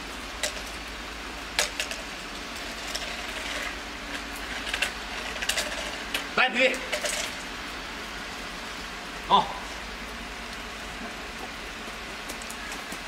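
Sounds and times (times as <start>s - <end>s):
rain on concrete: 0.0s - 13.0s.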